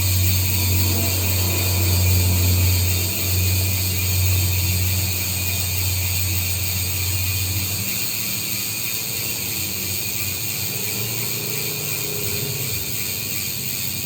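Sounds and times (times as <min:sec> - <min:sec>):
bicycle freehub ticking: 0:00.0 - 0:14.0.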